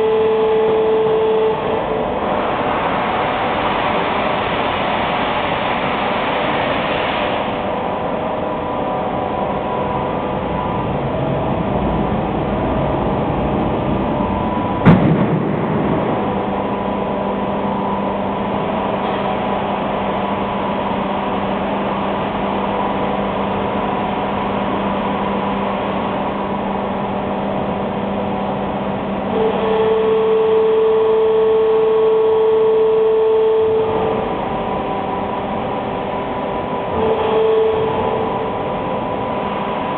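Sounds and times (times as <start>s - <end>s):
steady motor tone: 0.0s - 5.4s, 7.4s - 39.9s
machinery humming: 0.0s - 39.9s.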